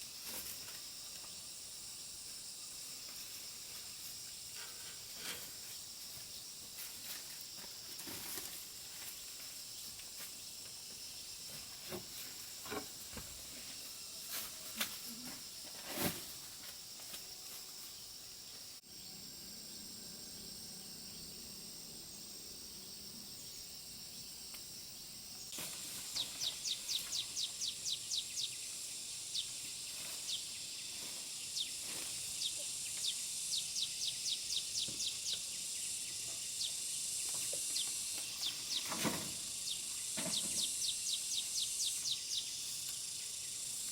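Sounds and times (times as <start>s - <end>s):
high-pitched insect hiss: 0.0s - 43.9s.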